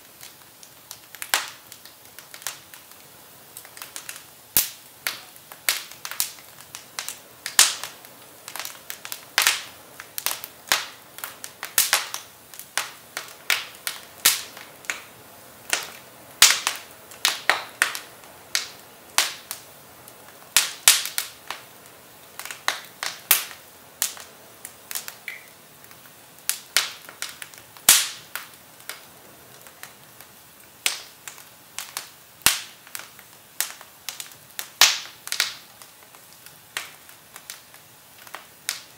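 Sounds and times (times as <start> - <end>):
faint hiss: 0.0 - 38.9
firewood crackling in fireplace: 0.0 - 38.9.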